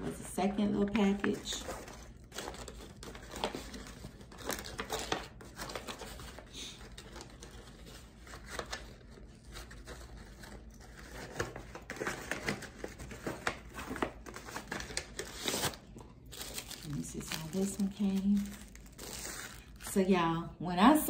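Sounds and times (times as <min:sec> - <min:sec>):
packaging rustling and crinkling: 0:00.9 - 0:19.9.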